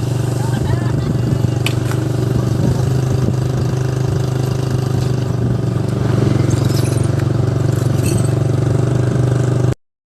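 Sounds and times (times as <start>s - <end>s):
engine humming steadily: 0.0s - 9.8s.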